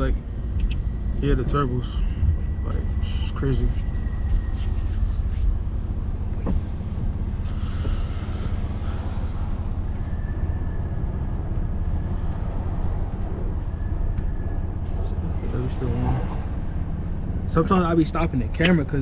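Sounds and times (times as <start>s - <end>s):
car engine droning: 0.0s - 19.0s.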